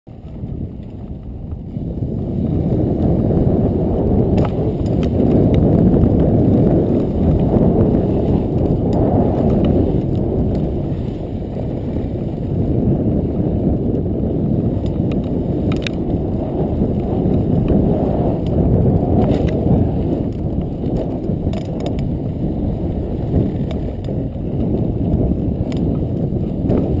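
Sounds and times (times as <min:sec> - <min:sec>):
bike tyres rumbling on gravel: 0:00.1 - 0:27.0
stones clicking and bike rattle: 0:00.1 - 0:27.0.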